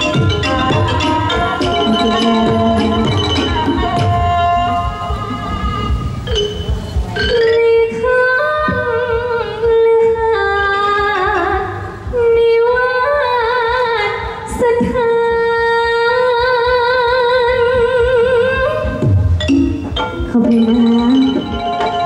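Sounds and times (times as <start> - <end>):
woman singing with vibrato: 0.0 - 6.5, 7.2 - 22.0.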